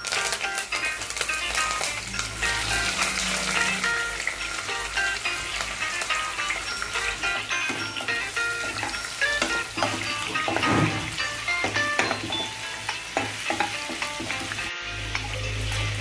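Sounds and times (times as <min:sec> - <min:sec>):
background music: 0:00.0 - 0:16.0
hot oil sizzling and spattering: 0:00.0 - 0:16.0.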